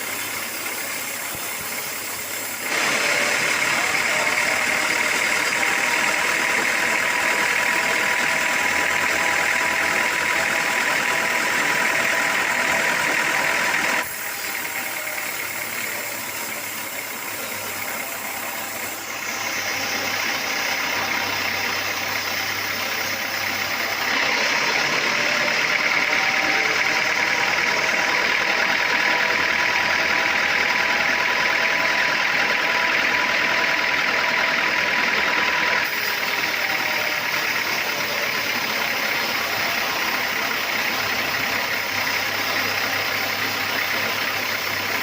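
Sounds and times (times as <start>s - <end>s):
sawmill machinery droning: 0.0s - 45.0s.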